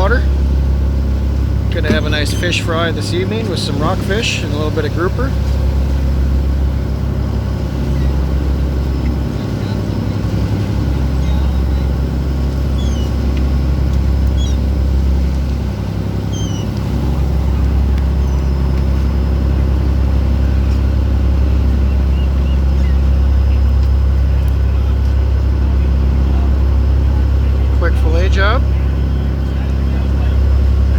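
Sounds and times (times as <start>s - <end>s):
boat engine droning: 0.0s - 30.9s
seagulls calling: 0.0s - 30.9s.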